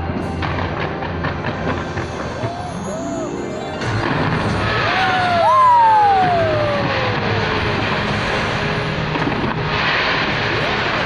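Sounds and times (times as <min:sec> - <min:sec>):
fireworks crackling and rumbling: 0:00.0 - 0:11.0.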